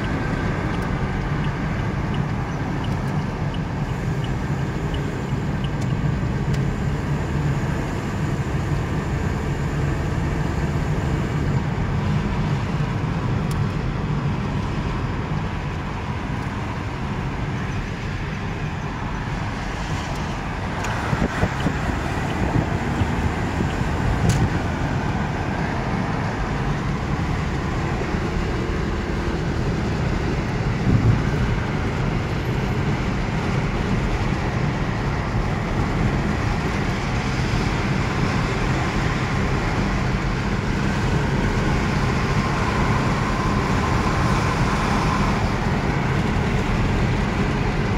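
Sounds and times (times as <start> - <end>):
car cabin road rumble: 0.0 - 47.9.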